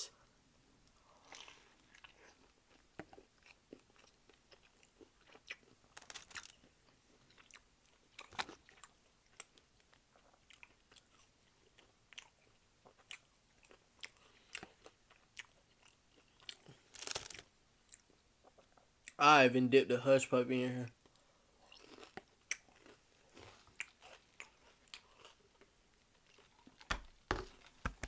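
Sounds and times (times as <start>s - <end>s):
crunching and chewing: 1.1s - 19.2s, 21.0s - 28.0s.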